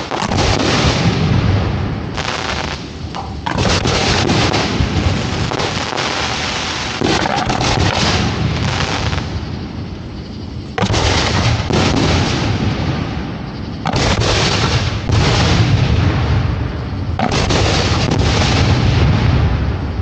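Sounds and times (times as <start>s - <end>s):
fireworks crackling: 0.0s - 9.8s, 10.8s - 19.4s
firework shells booming: 0.0s - 10.1s, 10.7s - 20.0s.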